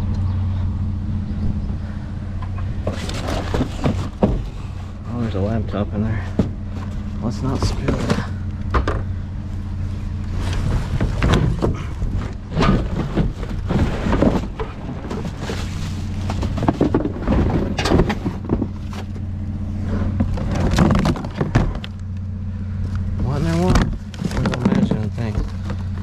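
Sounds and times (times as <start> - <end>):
engine idling: 0.0 - 26.0
clatter of junk being handled: 2.4 - 9.1, 10.3 - 22.2, 22.8 - 26.0.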